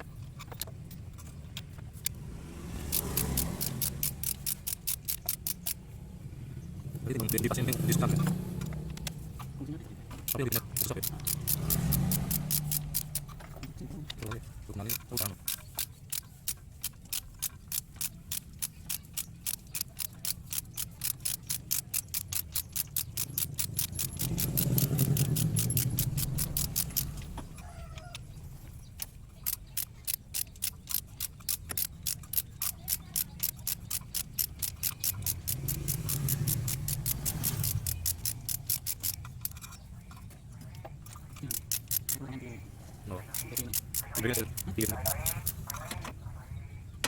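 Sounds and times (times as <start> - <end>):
ratchet wrench clicking: 0.2 - 5.9, 6.9 - 9.5, 10.1 - 40.3, 41.0 - 46.0.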